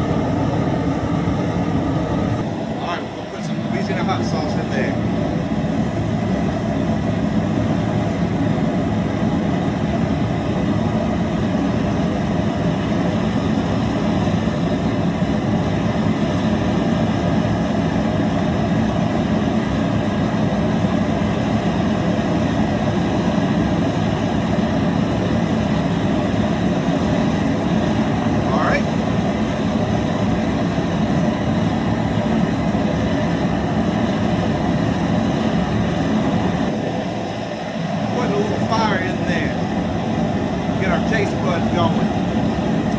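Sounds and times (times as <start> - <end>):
gas burner rushing: 0.0 - 42.9.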